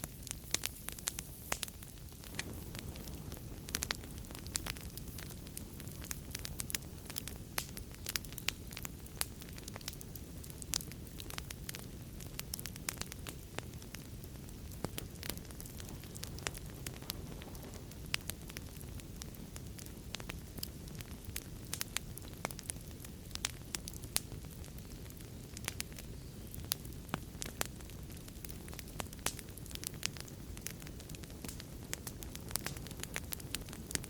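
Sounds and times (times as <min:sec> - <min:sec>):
fire crackling and popping: 0:00.0 - 0:34.0
low rumble of flames: 0:00.0 - 0:34.0.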